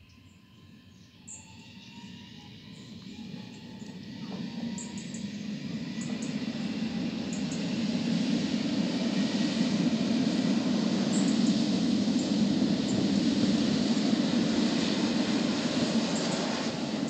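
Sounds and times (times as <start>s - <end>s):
electric train rumbling past: 0.0s - 17.0s.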